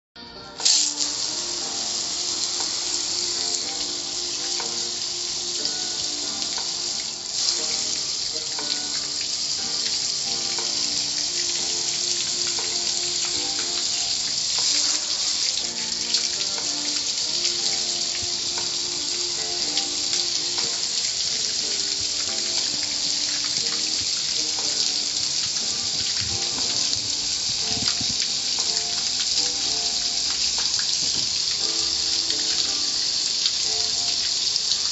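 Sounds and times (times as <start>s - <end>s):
water spray hissing: 0.6s - 34.9s.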